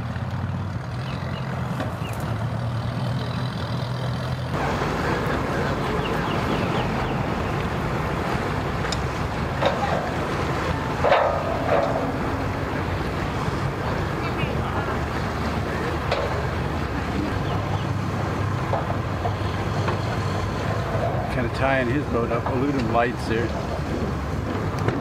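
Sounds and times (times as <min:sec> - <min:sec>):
boat engines idling: 0:00.0 - 0:25.0
jet ski engine running: 0:00.0 - 0:25.0
water churning: 0:01.3 - 0:25.0.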